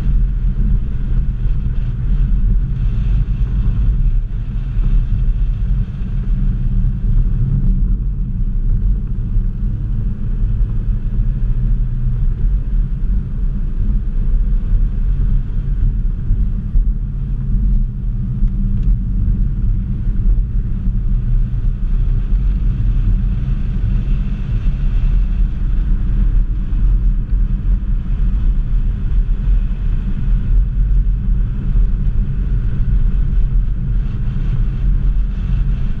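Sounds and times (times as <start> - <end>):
car engine low rumble in cabin: 0.0 - 36.0.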